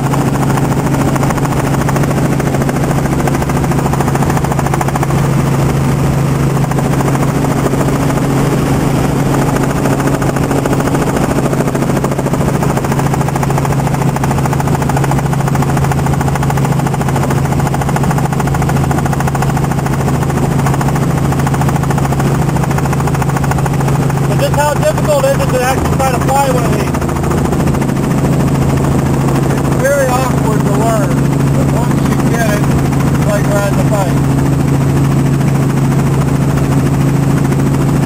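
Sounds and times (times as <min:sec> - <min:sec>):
helicopter rotor and engine: 0:00.0 - 0:38.0.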